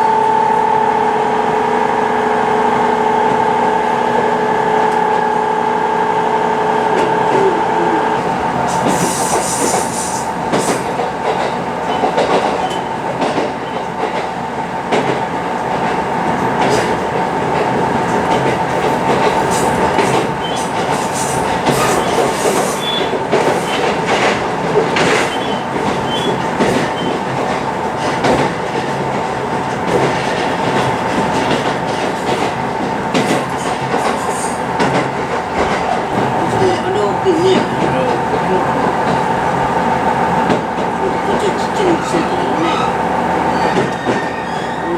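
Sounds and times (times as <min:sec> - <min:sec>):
railcar running noise: 0:00.0 - 0:44.9
wheels clicking over rail joints: 0:08.2 - 0:44.9.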